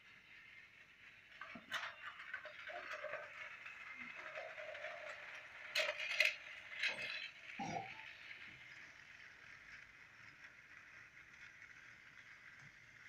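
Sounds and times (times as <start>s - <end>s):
toy train motor whir: 0.0s - 13.0s
toy train wheels rattling: 0.0s - 13.0s.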